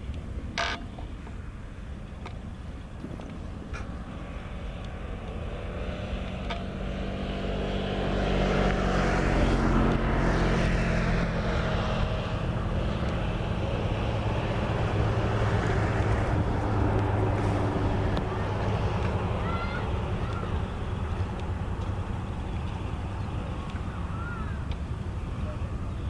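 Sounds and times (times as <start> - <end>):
motor drone: 2.7 - 26.0.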